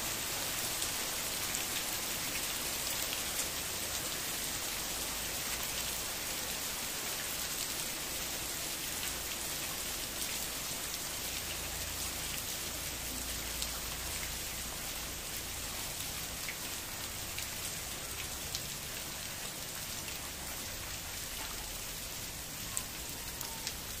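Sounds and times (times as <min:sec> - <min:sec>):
heavy rain on wet ground: 0:00.0 - 0:24.0.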